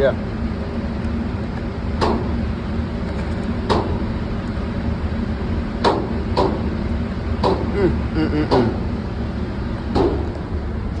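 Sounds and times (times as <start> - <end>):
ventilation rumble: 0.0 - 11.0.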